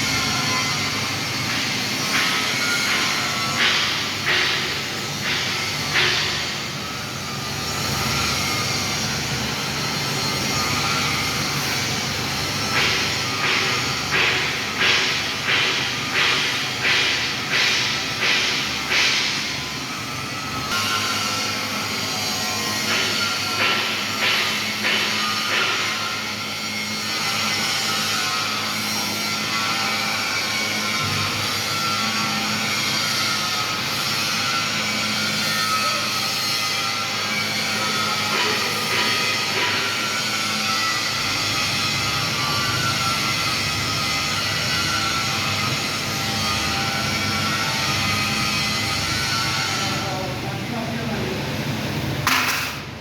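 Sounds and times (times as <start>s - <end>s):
welding machine electrical hum: 0.0s - 53.0s.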